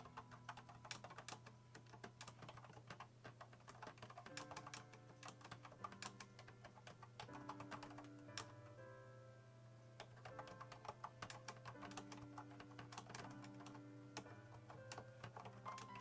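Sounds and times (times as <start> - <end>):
typing on mushy keyboard: 0.0 - 8.8, 10.0 - 16.0.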